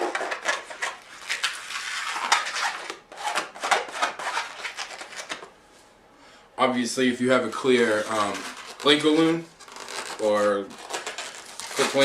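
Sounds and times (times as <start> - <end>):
balloon rubbing and squeaking: 0.0 - 5.4, 7.4 - 12.0.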